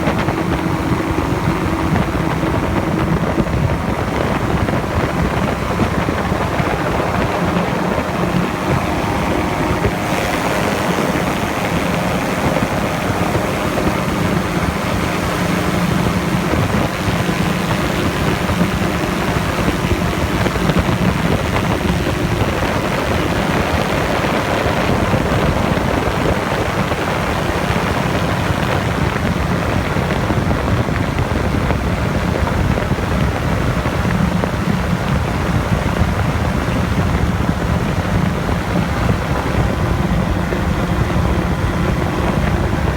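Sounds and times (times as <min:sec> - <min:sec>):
drone propellers humming: 0:00.0 - 0:42.9.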